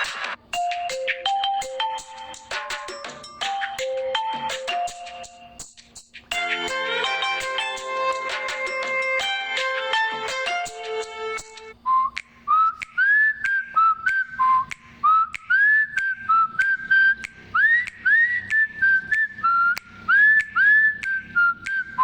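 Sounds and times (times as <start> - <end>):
sharp rhythmic clicks: 0.0 - 22.0
whistled ringtone melody: 0.5 - 22.0.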